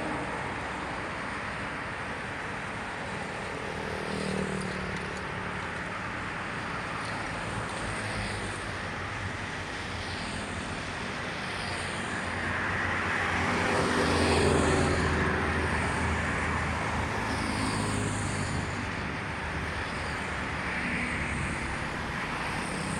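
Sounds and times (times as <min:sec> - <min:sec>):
steady road noise: 0:00.0 - 0:22.9.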